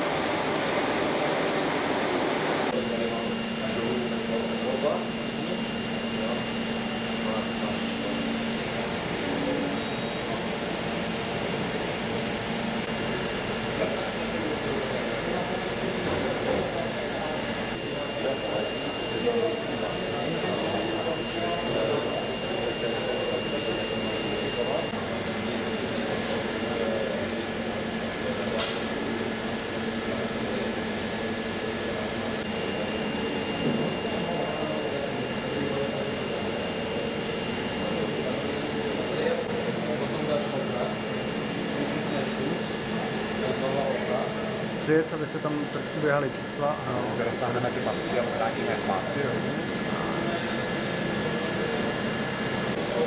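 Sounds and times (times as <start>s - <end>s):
machine tools running: 0.0s - 53.0s.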